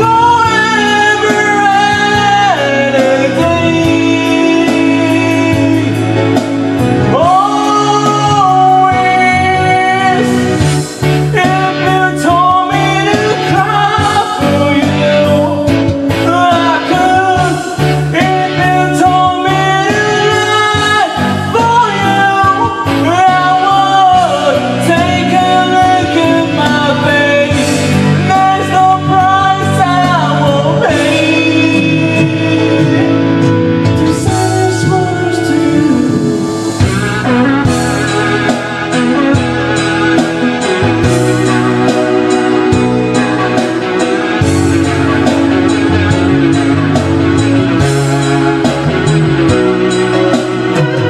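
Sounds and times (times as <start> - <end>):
guitar backing music: 0.0 - 51.0
harmonica melody: 0.0 - 51.0.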